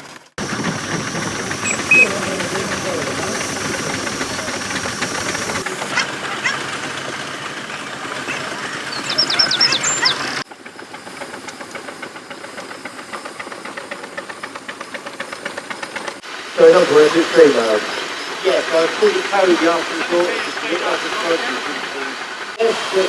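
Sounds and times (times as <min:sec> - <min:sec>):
steam hissing: 0:00.4 - 0:23.0.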